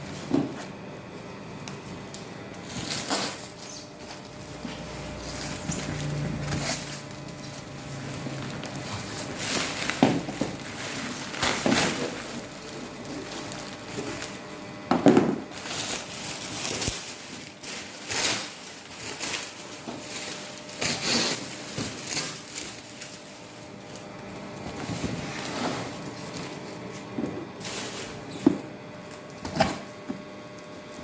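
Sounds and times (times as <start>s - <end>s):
packaging rustling and crinkling: 0.0s - 31.0s.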